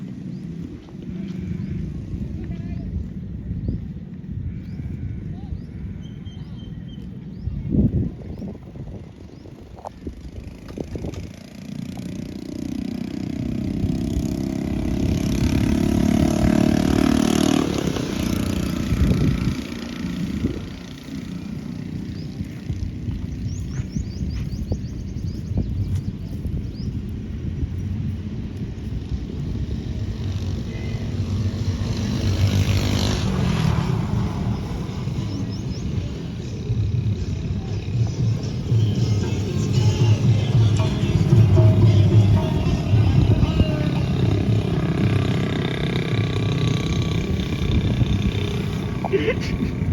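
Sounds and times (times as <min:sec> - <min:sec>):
vehicle engine passing by: 0:00.0 - 0:02.6, 0:10.2 - 0:25.2, 0:26.1 - 0:49.9.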